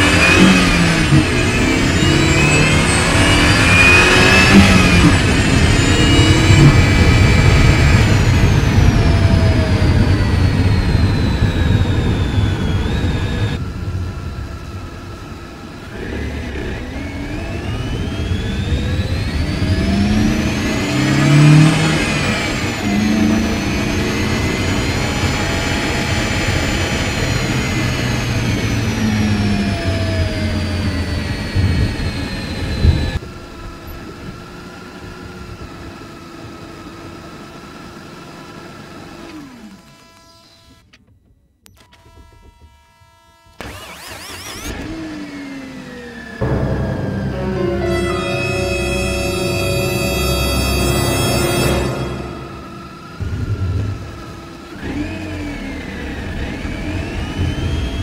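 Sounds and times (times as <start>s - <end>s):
car engine revving: 0.0s - 33.2s, 43.6s - 58.0s
supercharger whine: 0.0s - 41.0s, 41.7s - 58.0s.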